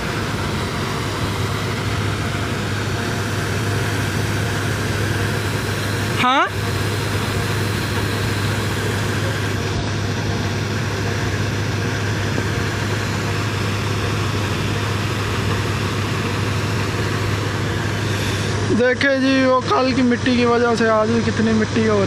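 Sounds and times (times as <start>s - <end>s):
auger unloading grain: 0.0s - 19.6s
combine harvester engine hum: 0.0s - 22.0s.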